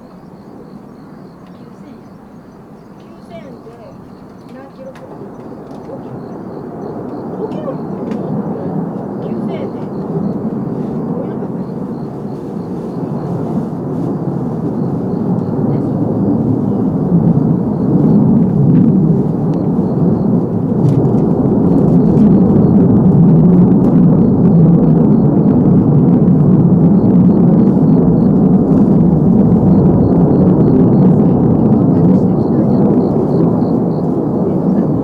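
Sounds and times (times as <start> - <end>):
distant jet engine roar: 0.0 - 35.0.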